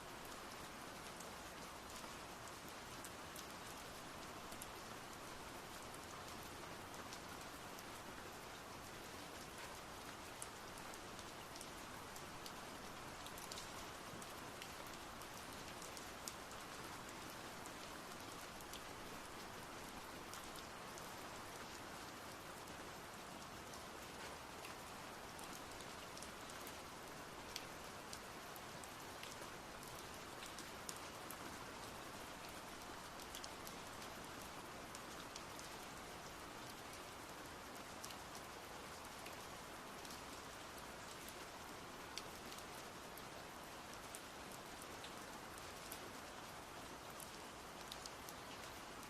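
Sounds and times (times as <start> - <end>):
rain-like patter: 0.0 - 49.0.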